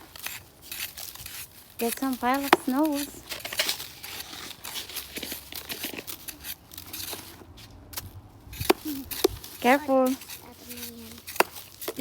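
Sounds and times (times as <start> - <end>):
snow crunching: 0.0 - 12.0.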